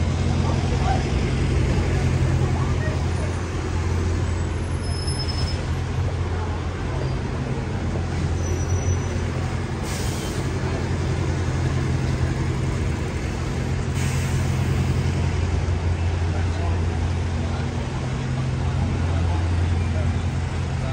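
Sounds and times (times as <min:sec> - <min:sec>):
city street traffic: 0:00.0 - 0:20.9
large vehicle engine humming: 0:00.0 - 0:20.9.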